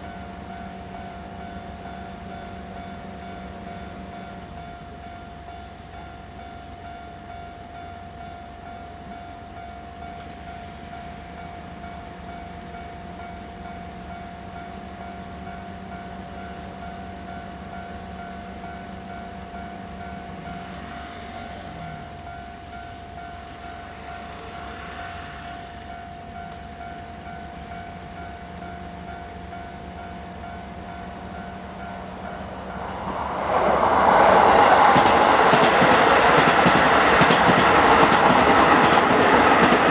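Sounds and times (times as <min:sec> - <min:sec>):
railroad crossing signal ringing: 0:00.0 - 0:39.9
train passing loudly: 0:00.0 - 0:39.9.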